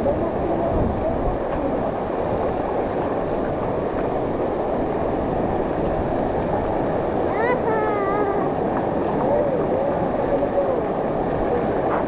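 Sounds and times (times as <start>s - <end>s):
water lapping: 0.0s - 12.0s.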